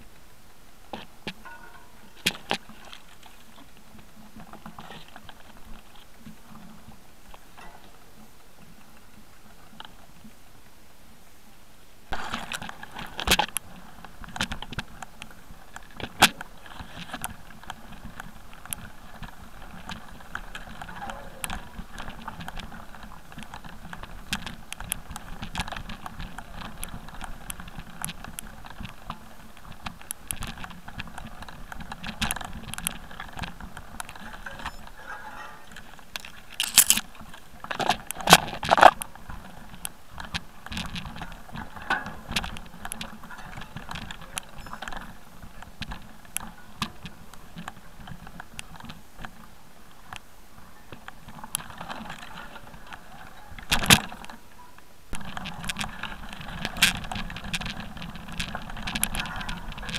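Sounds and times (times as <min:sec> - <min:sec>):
wheel crunching over stony trail: 0:00.0 - 0:11.2, 0:12.0 - 0:59.9.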